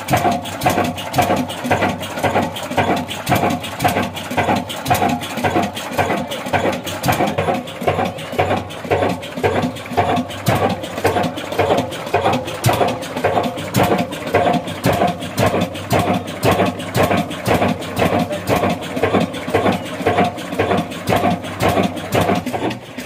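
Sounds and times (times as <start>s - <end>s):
stationary engine running: 0.0s - 23.0s.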